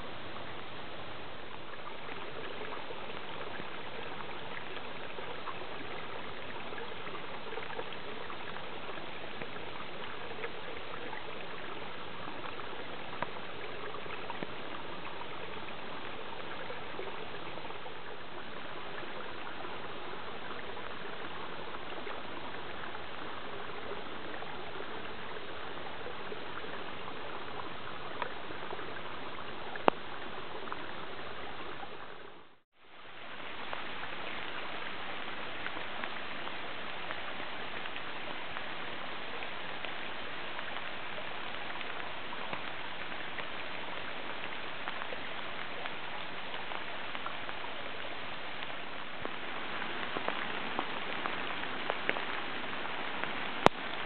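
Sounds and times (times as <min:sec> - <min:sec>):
water trickling over stones: 0:00.0 - 0:54.0.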